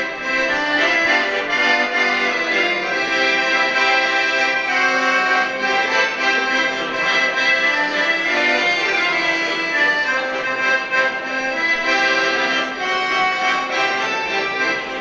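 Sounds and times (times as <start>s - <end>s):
two accordions playing a folk tune: 0.0s - 15.0s.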